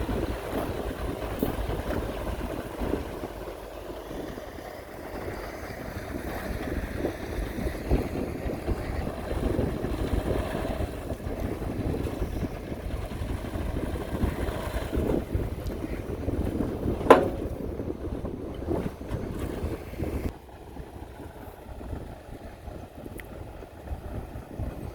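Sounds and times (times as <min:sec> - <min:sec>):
heavy machinery engines running: 0:00.0 - 0:24.9
wind rumbling on microphone: 0:00.0 - 0:24.9.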